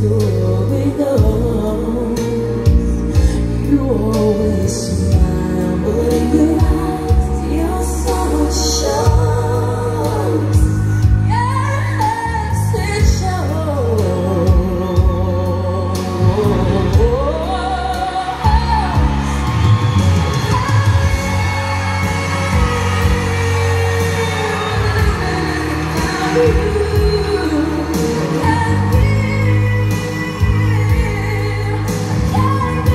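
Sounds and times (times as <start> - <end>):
person singing with vibrato: 0.0 - 32.9
strong bass line: 0.0 - 32.9.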